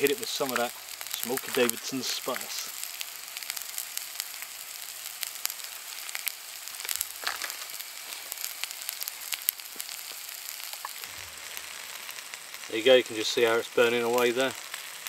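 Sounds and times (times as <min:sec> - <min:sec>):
food sizzling in a skillet: 0:00.0 - 0:15.0.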